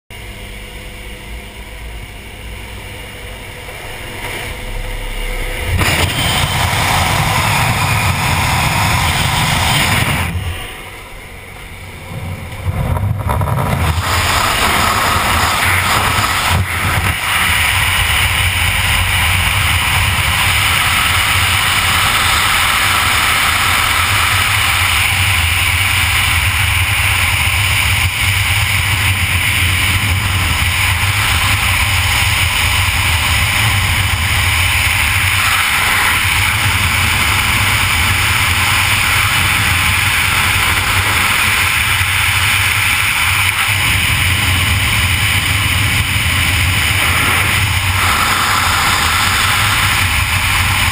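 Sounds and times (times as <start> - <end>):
wind blasting over microphone: 5.6 - 50.9.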